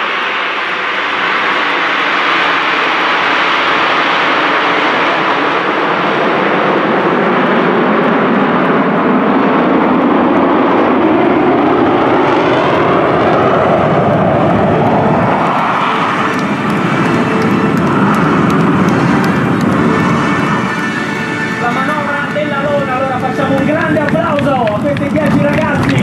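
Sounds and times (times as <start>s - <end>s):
jets passing overhead: 0.0s - 26.0s.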